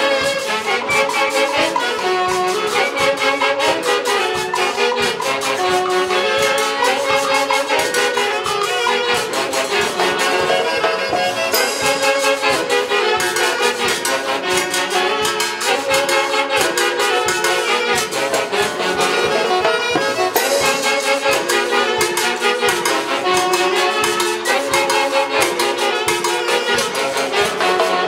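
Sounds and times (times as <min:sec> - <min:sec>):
clarinet and saxophones melody: 0:00.0 - 0:28.0
drums: 0:00.0 - 0:28.0.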